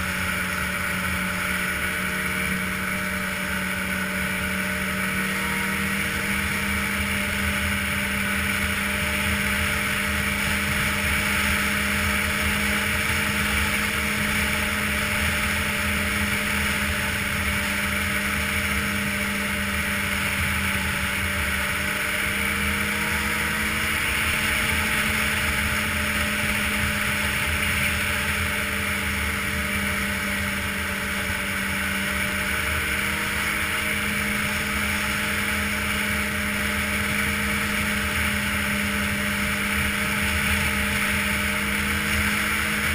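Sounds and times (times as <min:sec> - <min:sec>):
snowmobile engine running: 0:00.0 - 0:42.9.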